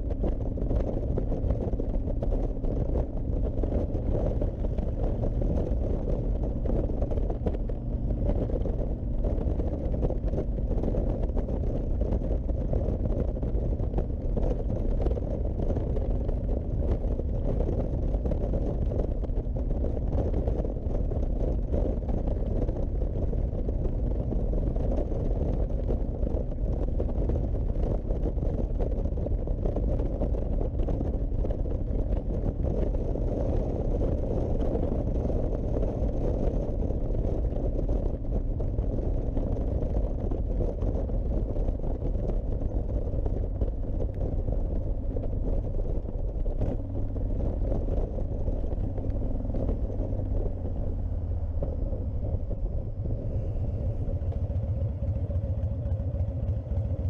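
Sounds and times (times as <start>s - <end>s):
motorcycle engine rumble: 0.0s - 57.0s
wind rush on microphone: 0.0s - 57.0s.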